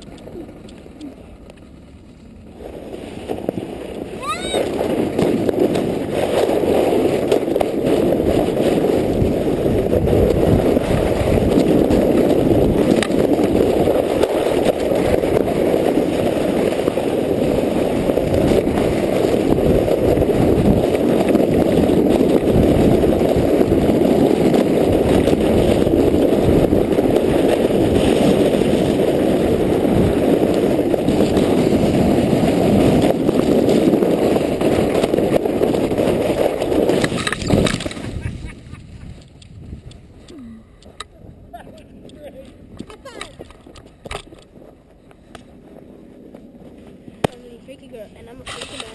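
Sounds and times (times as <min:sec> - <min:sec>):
sled scraping over icy snow: 0:00.0 - 0:48.9.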